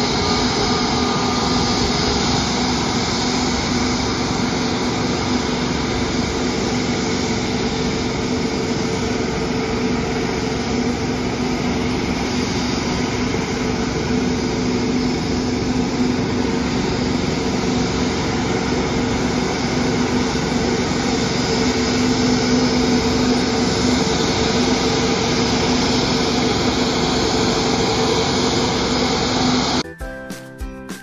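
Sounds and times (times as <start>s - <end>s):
low engine hum: 0.0s - 29.8s
jet engines rushing: 0.0s - 29.9s.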